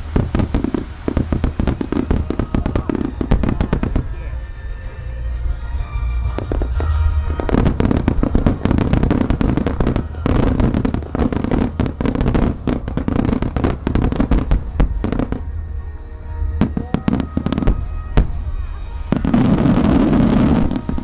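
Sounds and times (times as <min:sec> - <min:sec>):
fireworks bursting with sharp bangs: 0:00.0 - 0:04.8, 0:05.4 - 0:21.0.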